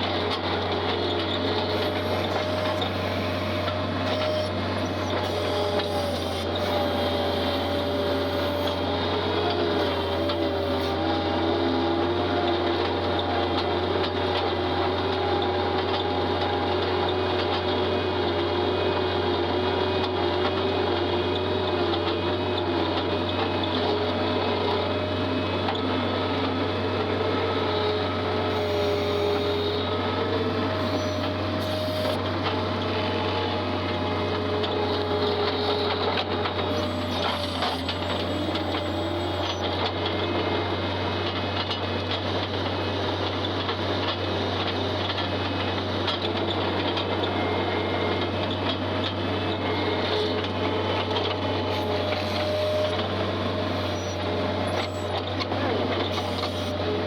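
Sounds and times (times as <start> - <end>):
loader engine running: 0.0 - 57.0.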